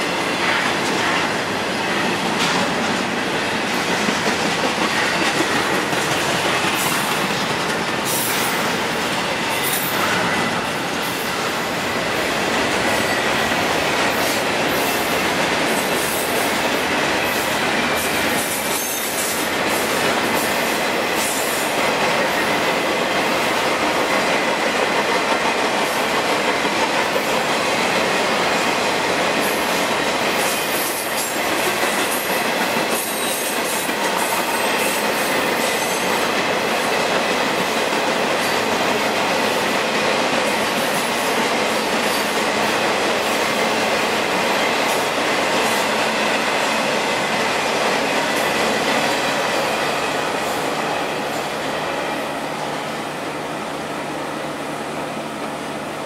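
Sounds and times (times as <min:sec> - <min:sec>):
freight cars rumbling on rail: 0:00.0 - 0:56.0.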